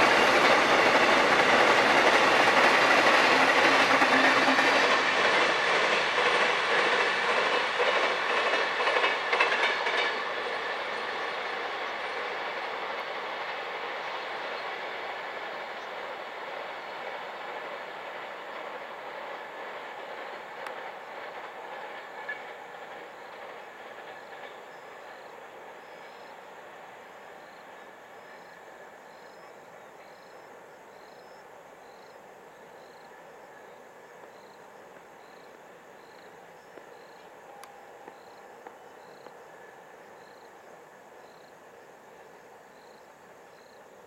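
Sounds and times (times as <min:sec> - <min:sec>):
freight train wagons rumbling: 0:00.0 - 0:44.0.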